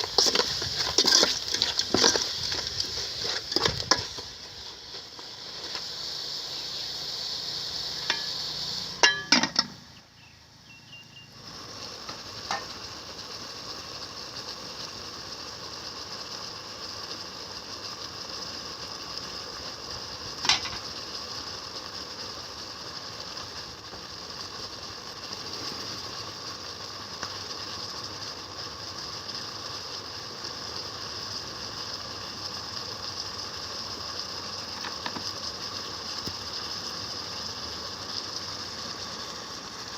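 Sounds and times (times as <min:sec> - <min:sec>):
food sizzling in a hot pan: 0:00.0 - 0:39.9.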